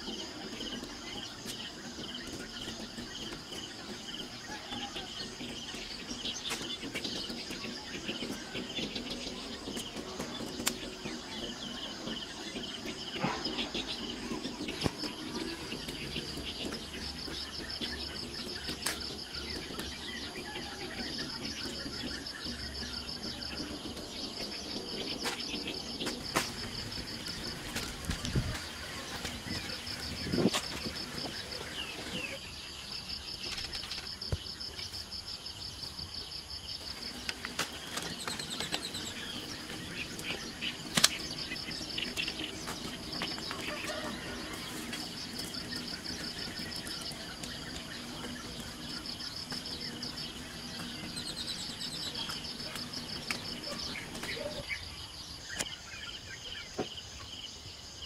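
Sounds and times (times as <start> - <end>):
bird calls: 0.0 - 58.0
insects trilling: 0.0 - 58.0.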